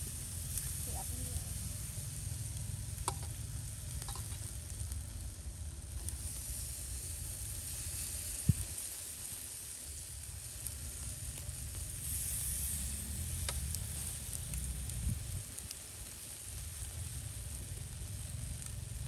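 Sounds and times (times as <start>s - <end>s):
meat sizzling on grill: 0.0s - 19.0s.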